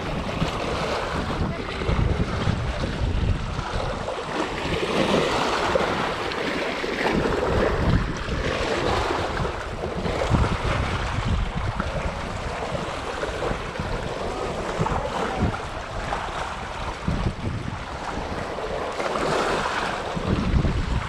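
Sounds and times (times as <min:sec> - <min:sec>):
waves splashing against rocks: 0:00.0 - 0:21.0
wind buffeting microphone: 0:00.0 - 0:21.0.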